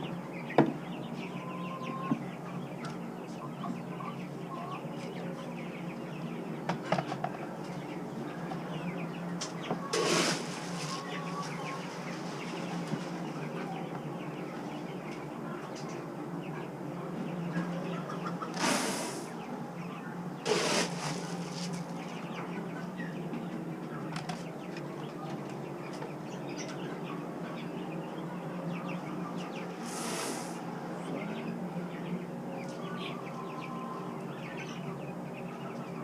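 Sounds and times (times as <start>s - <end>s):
chickens and turkeys clucking: 0.0s - 36.0s.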